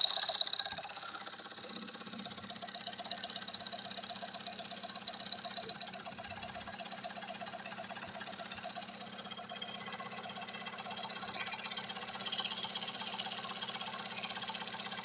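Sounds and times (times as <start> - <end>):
car engine knocking: 0.0 - 15.0.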